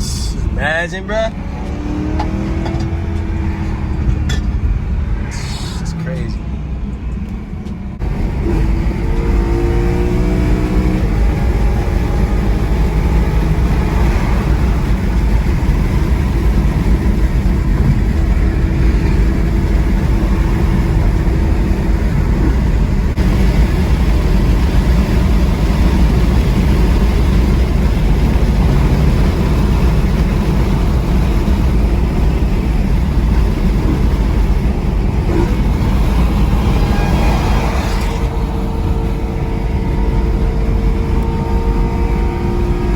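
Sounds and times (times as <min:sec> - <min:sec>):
car engine low exhaust rumble: 0:00.0 - 0:42.9.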